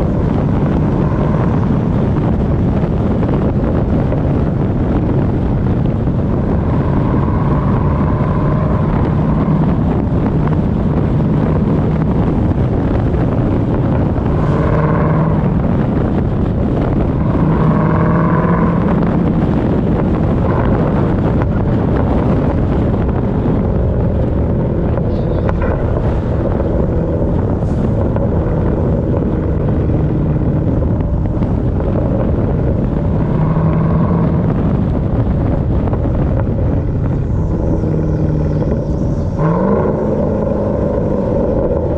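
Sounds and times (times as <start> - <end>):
car engine: 0.0 - 41.9
road noise: 0.0 - 41.9
wind noise on microphone: 0.0 - 41.9.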